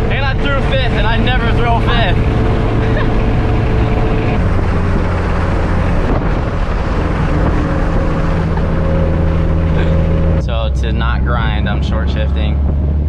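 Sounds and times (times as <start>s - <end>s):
car engine running: 0.0s - 13.0s
wind noise: 0.0s - 13.0s.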